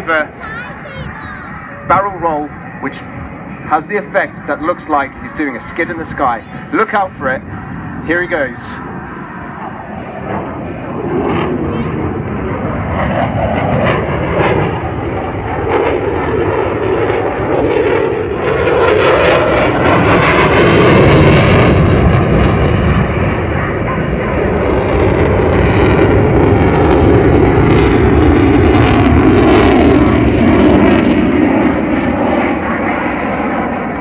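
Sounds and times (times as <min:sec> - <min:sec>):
loud jet noise of fighter flying: 0:00.0 - 0:34.0.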